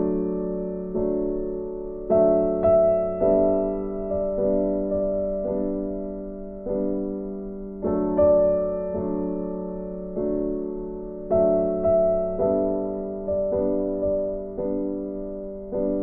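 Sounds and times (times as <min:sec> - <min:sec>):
gentle piano chords: 0:00.0 - 0:16.0.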